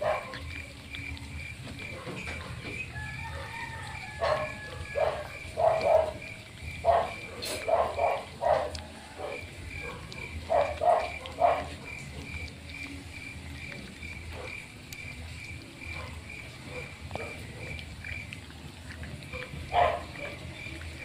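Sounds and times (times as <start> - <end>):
puppies eating from metal plate: 0.0 - 21.0.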